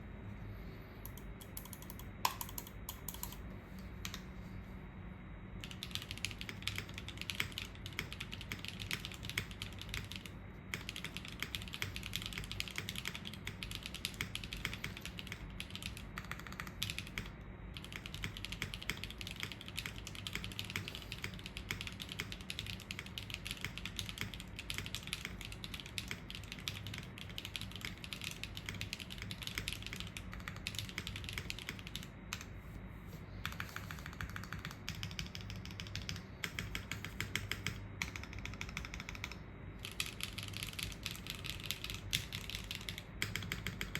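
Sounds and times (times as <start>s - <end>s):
mechanical keyboard typing: 1.1s - 3.4s, 5.6s - 32.5s, 33.4s - 43.9s.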